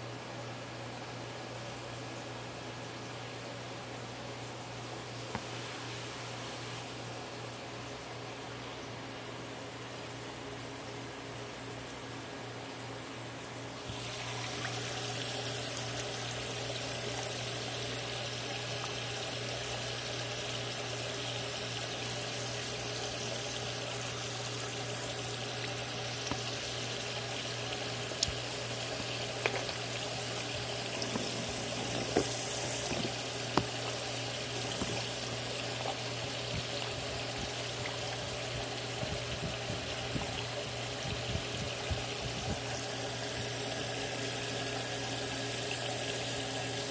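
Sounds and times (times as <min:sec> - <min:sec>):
tank filter humming: 0:00.0 - 0:46.9.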